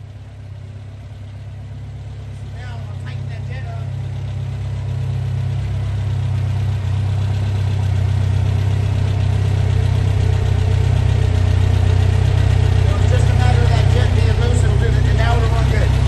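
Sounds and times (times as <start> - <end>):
engine revving: 2.2 - 16.0.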